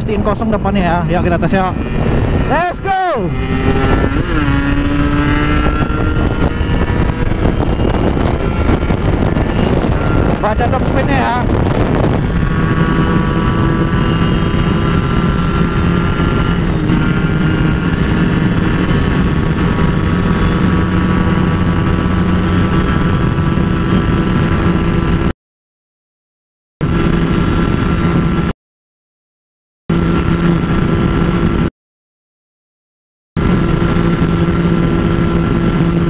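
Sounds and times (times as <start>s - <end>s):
motorcycle engine at high revs: 0.1s - 25.4s, 26.8s - 28.5s, 29.9s - 31.7s, 33.4s - 36.0s.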